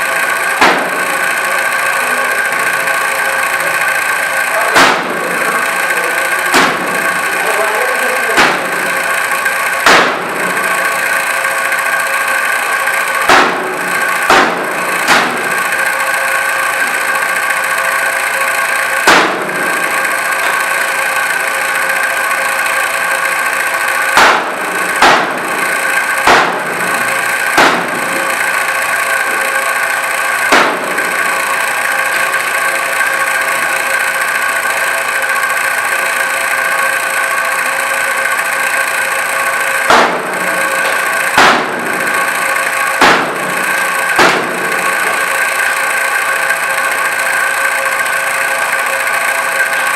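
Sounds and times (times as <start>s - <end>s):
droning hum: 0.0s - 49.9s.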